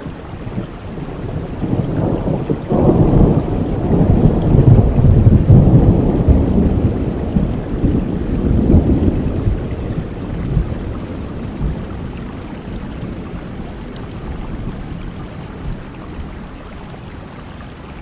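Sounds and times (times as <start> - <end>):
thunder rumbling: 0.0 - 16.5
steady rain: 0.0 - 18.0.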